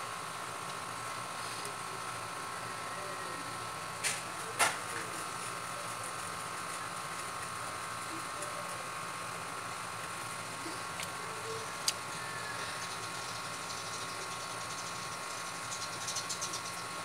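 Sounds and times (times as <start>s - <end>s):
mechanical hum with held tones: 0.0s - 17.0s.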